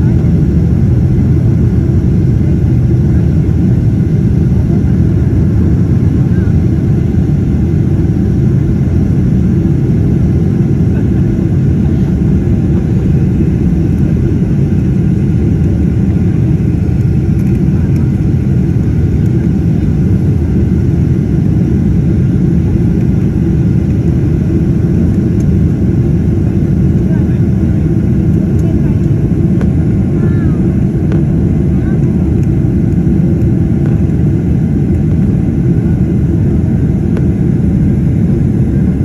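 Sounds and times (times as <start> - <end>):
airliner cabin roar: 0.0 - 39.0.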